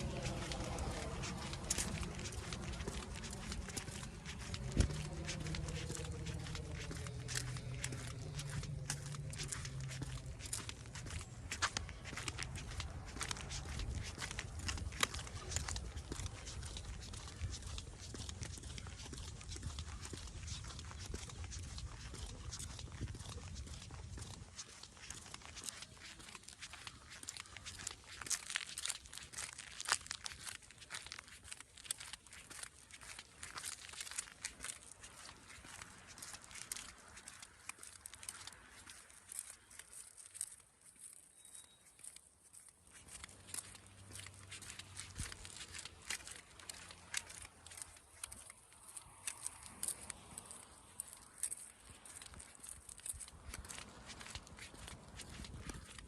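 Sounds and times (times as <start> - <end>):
dry crunching and crackling: 0.0 - 56.0.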